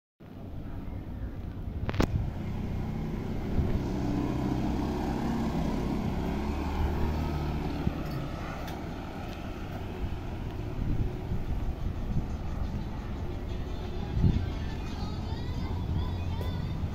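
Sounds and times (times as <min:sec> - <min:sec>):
street hum: 0:00.2 - 0:16.9
vehicle engine droning: 0:00.2 - 0:16.9.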